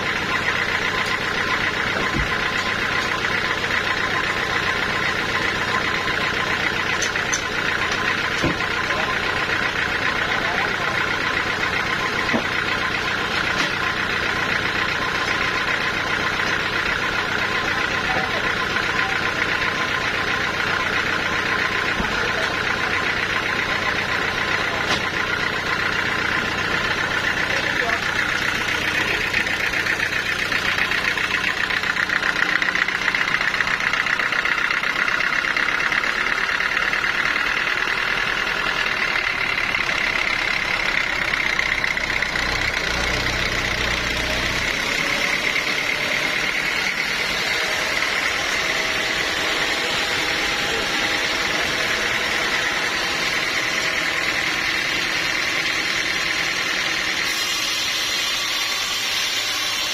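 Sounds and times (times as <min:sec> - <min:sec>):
low machine rumble: 0:00.0 - 0:57.5
bandsaw mill whine: 0:00.0 - 0:59.9.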